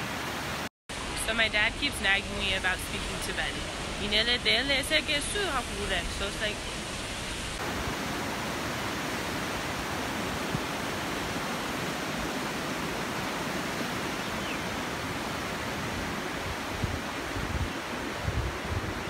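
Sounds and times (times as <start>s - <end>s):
river rushing over rocks: 2.0s - 19.0s.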